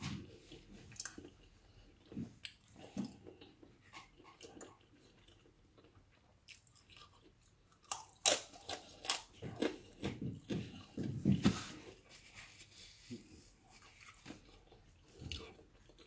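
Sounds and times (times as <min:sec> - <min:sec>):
person chewing crunchy food: 0:00.0 - 0:12.0, 0:13.4 - 0:16.0.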